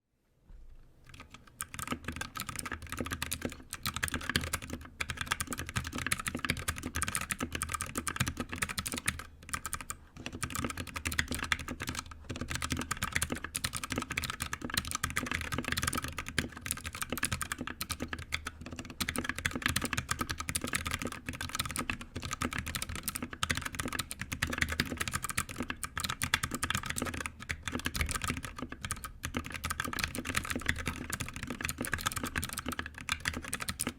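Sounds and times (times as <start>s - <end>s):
fast typing on mechanical keyboard: 1.1s - 33.9s.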